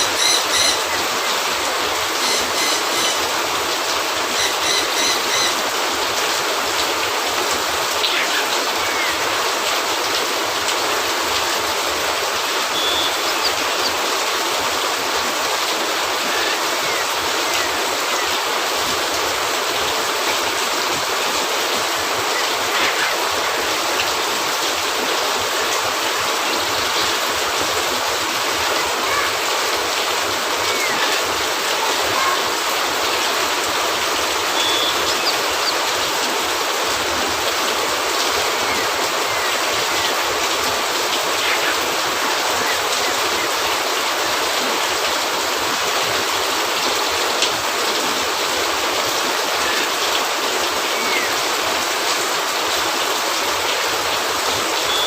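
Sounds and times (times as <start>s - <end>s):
rain hissing on a roof: 0.0s - 55.0s.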